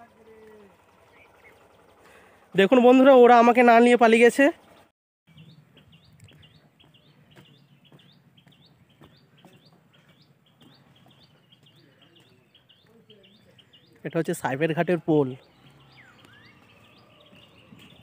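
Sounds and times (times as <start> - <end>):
faint bird chirping: 0.0 - 2.6, 4.5 - 18.0.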